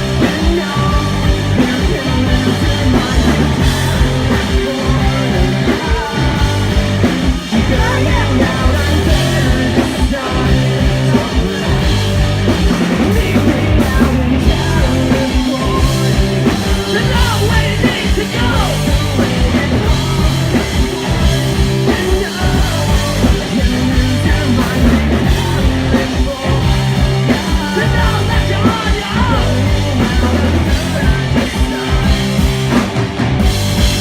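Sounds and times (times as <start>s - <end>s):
person singing: 0.0s - 32.8s
drum kit: 0.0s - 34.0s
punk rock band playing: 0.0s - 34.0s.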